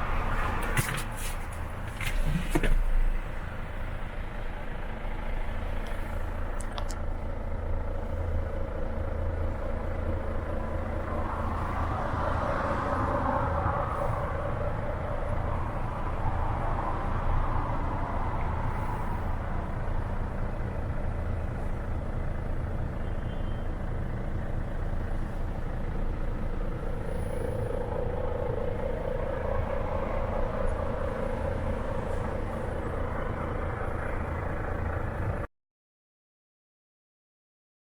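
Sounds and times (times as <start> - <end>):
diesel truck engine idling: 0.0 - 35.5.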